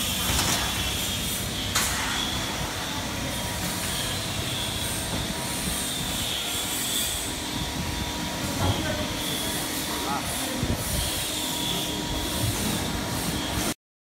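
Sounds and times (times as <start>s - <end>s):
punching machine running: 0.0s - 13.7s.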